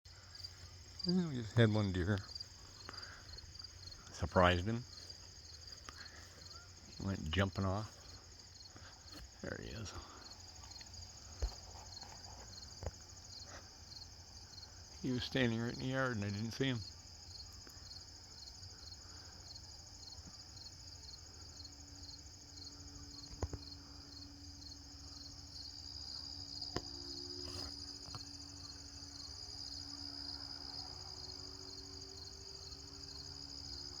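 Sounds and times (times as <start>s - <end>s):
crickets chirping: 0.1s - 34.0s
faint low hum: 0.1s - 34.0s.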